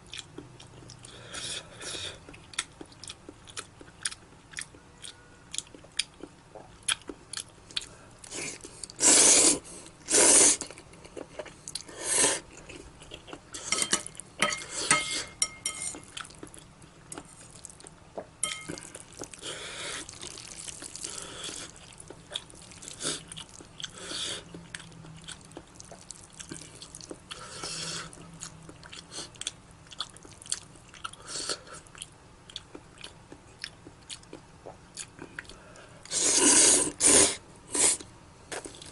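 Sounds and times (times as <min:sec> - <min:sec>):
person chewing noodles: 0:00.0 - 0:38.9.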